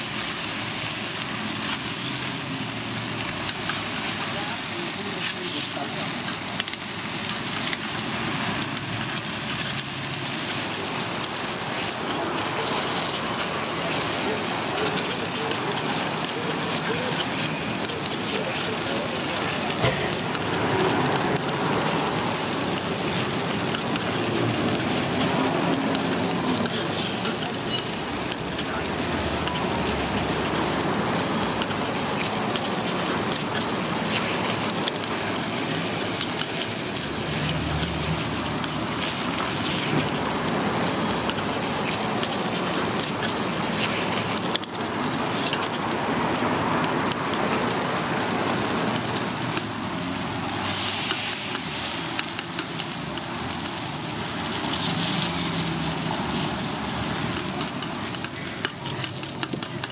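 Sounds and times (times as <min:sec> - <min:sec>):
batter sizzling on a griddle: 0:00.0 - 0:59.9.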